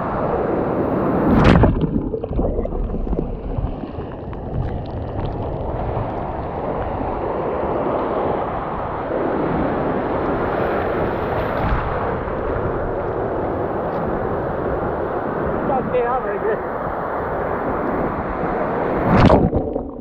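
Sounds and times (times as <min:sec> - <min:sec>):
ocean surf breaking waves: 0:00.0 - 0:19.9
wind buffeting microphone: 0:00.0 - 0:20.0.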